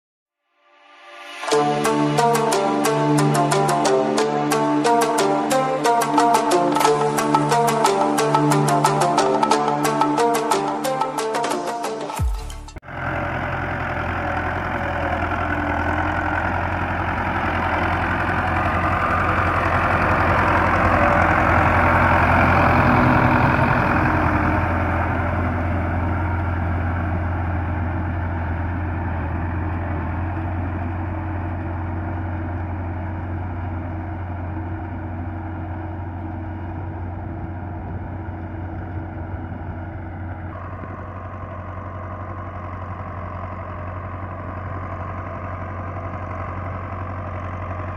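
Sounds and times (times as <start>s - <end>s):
tractor diesel engine running: 1.5s - 47.9s.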